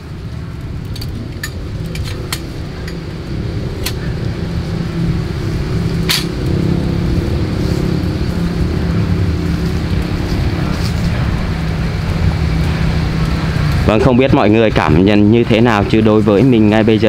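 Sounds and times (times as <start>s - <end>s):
low motor hum: 0.0s - 15.1s.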